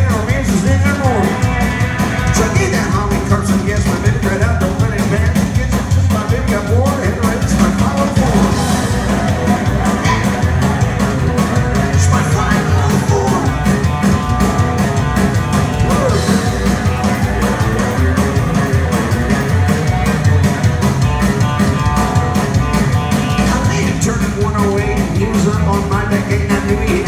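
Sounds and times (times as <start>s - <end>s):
drums fast steady beat: 0.0s - 27.0s
electric guitar: 0.0s - 27.0s
rock and roll band playing: 0.0s - 27.0s.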